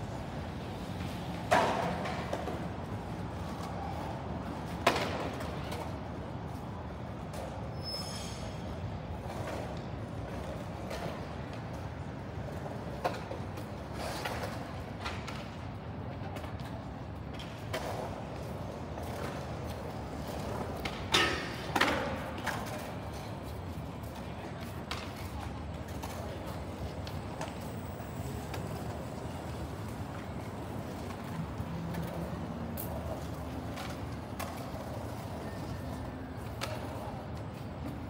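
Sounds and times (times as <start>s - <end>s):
low city rumble: 0.0s - 38.0s.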